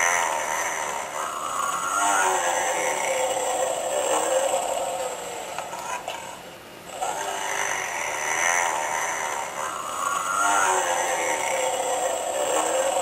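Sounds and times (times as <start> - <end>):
plush toy snoring: 0.0 - 13.0.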